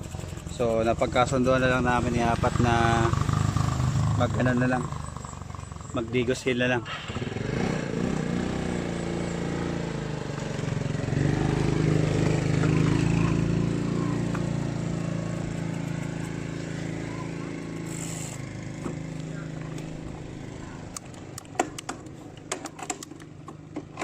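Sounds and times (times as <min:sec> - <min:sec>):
small motor engine passing: 0:00.0 - 0:24.0.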